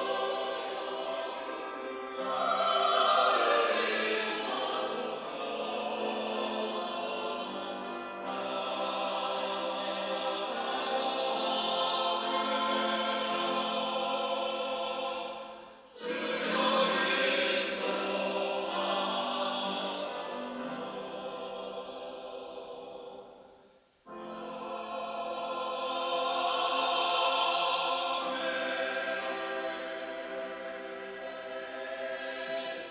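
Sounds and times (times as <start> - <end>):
church choir singing: 0.0 - 32.9.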